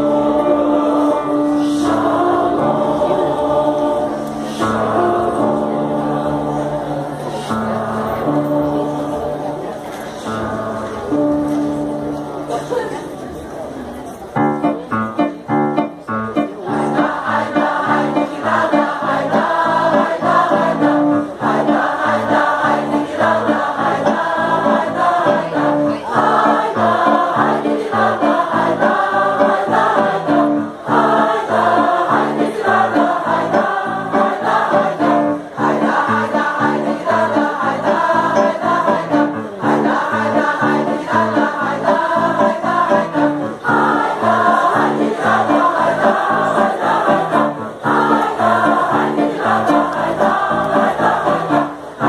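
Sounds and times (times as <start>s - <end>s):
mixed choir singing: 0.0s - 11.2s, 16.6s - 52.0s.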